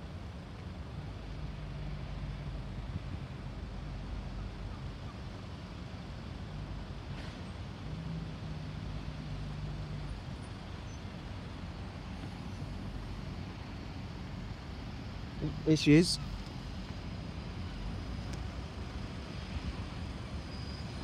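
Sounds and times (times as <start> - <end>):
low engine hum: 0.0 - 21.0
outdoor background noise: 0.0 - 21.0.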